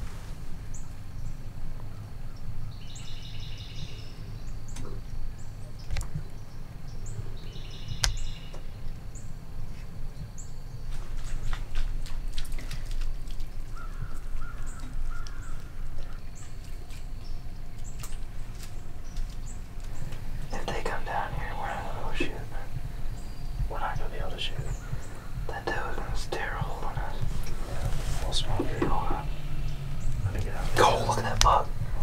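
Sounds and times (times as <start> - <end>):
steady low rumble: 0.0 - 32.0
rapid repeated bird calls: 0.7 - 32.0.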